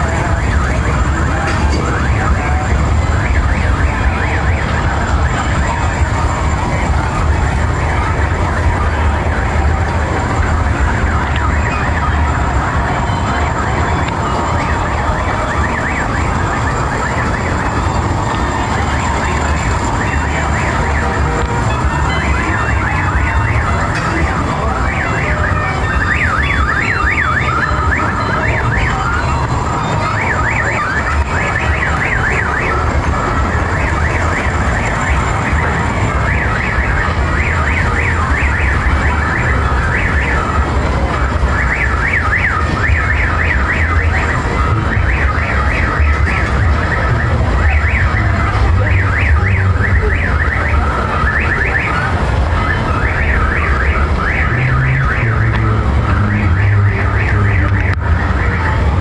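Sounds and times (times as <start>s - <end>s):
low funfair hum: 0.0s - 59.0s
warbling siren-like tones: 0.0s - 59.0s.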